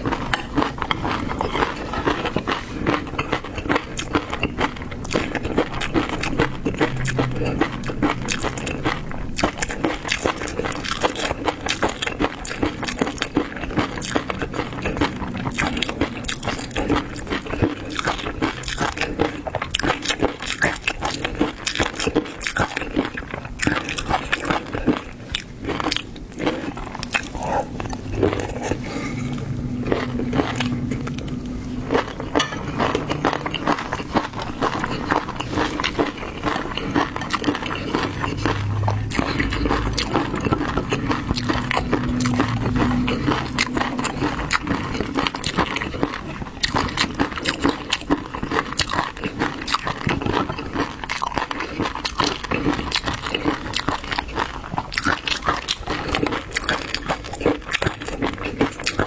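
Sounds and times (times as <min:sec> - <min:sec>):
chewing raw seafood: 0:00.0 - 0:59.0.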